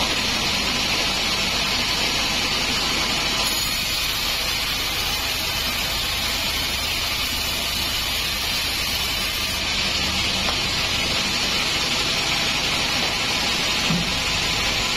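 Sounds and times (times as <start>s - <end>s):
band saw cutting through log: 0.0s - 14.9s.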